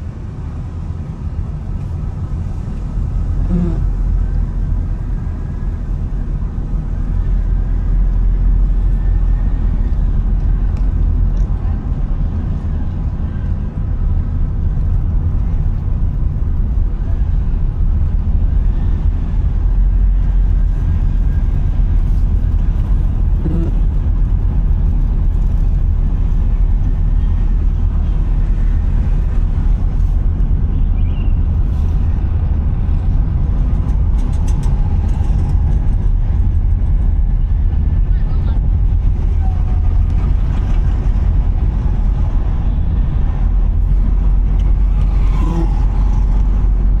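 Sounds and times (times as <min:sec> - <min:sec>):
car engine and tyre rumble: 0:00.0 - 0:47.0
faint traffic: 0:00.0 - 0:47.0.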